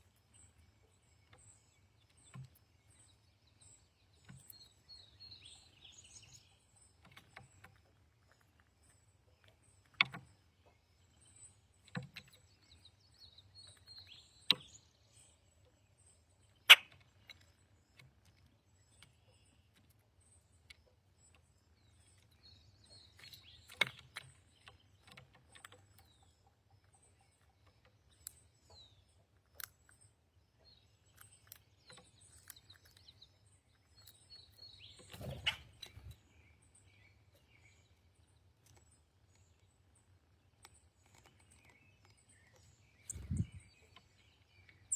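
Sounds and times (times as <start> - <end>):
songbird chirps: 0.0 - 44.9.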